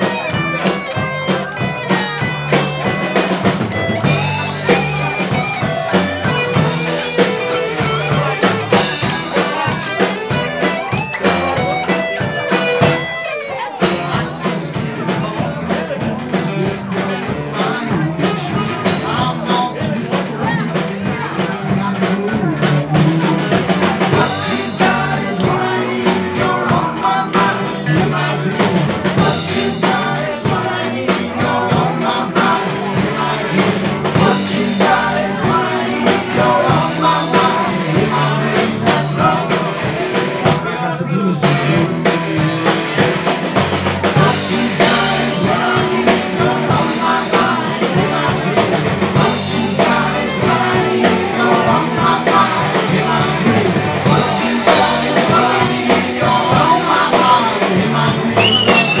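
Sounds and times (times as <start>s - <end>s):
drum kit: 0.0s - 59.0s
electric guitars: 0.0s - 59.0s
keyboard: 0.0s - 59.0s
person singing: 0.0s - 59.0s.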